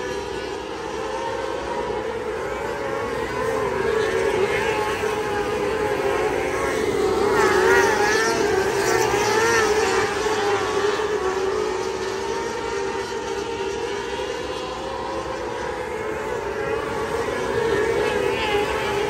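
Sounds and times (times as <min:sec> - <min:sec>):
racing car engines at high revs: 0:00.0 - 0:19.0.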